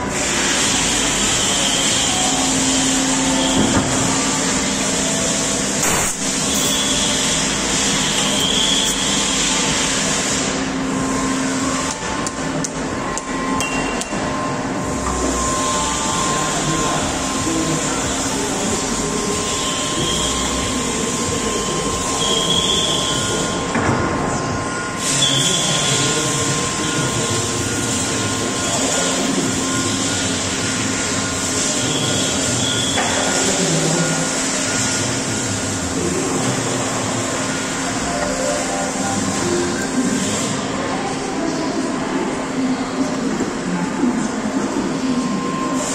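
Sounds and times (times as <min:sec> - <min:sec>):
industrial machinery hum: 0:00.0 - 0:45.9.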